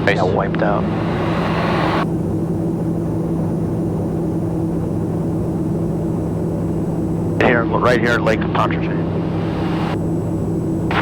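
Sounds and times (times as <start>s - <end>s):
turboprop cabin drone: 0.0s - 11.0s.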